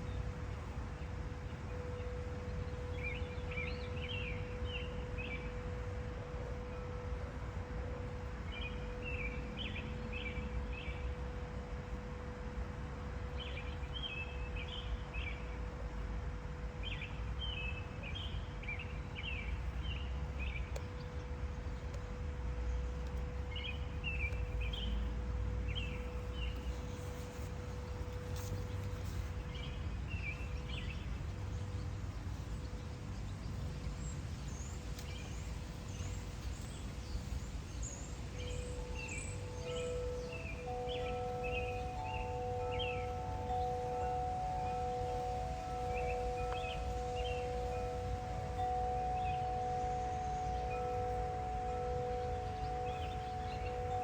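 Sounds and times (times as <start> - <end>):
faint constant hum: 0.0 - 54.0
low outdoor rumble: 0.0 - 54.0
songbird singing: 0.0 - 54.0.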